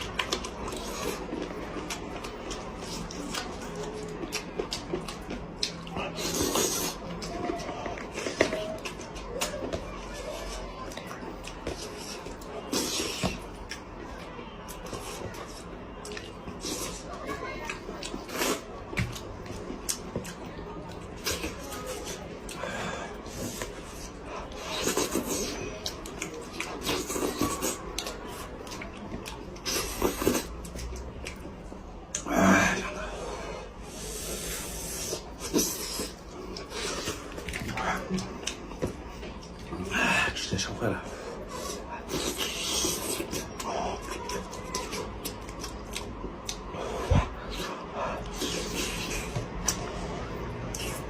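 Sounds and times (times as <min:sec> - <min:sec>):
wet chewing and gnawing: 0:00.0 - 0:33.0, 0:34.1 - 0:40.3, 0:41.4 - 0:51.0.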